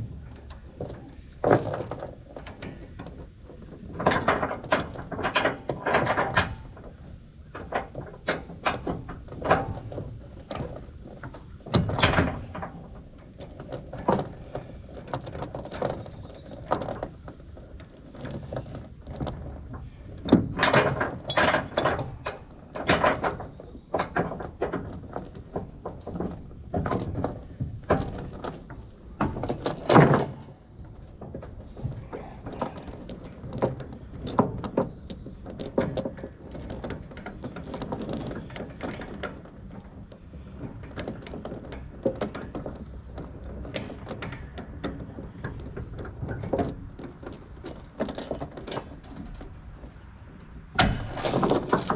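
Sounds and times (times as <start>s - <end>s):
knocks clanks and rattles: 0.0s - 51.9s.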